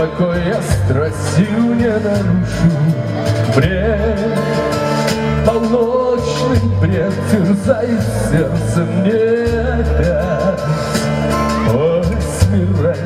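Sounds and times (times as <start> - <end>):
man singing into a microphone: 0.0 - 13.0
pop backing track: 0.0 - 13.0.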